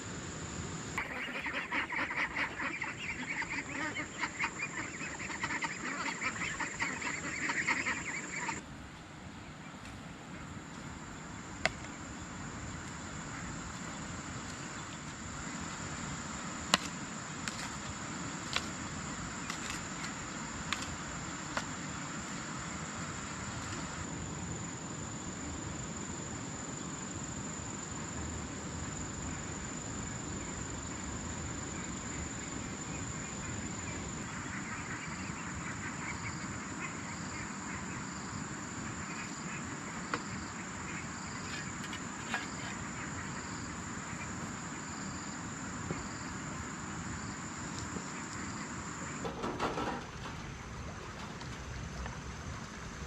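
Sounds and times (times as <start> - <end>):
insect pulsing call: 0.0 - 8.6, 10.9 - 51.3
insects trilling: 0.0 - 8.6, 10.8 - 53.0.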